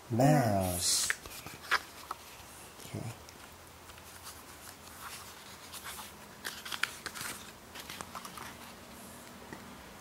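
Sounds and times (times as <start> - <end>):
book pages turning: 0.5 - 9.4.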